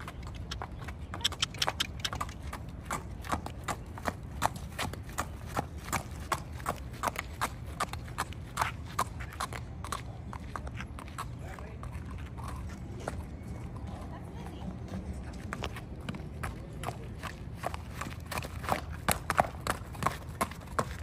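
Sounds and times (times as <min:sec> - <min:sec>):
horse hooves on pavement: 0:00.0 - 0:21.0.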